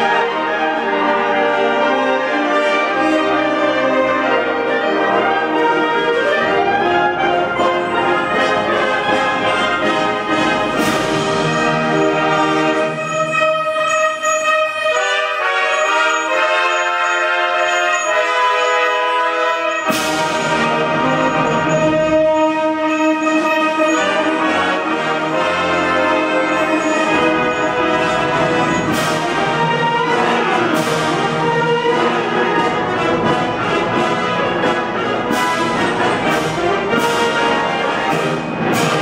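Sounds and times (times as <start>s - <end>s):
concert band playing: 2.6s - 39.0s.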